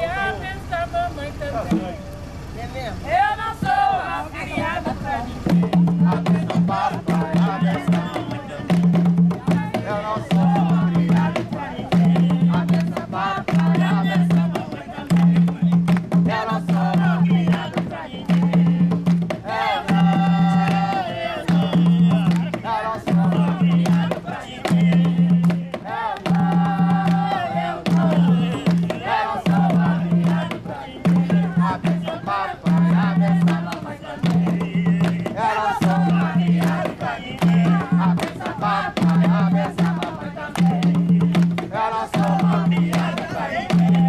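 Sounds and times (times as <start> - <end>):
group singing: 0.0 - 0.5, 3.1 - 44.0
hand drums beating: 5.4 - 44.0.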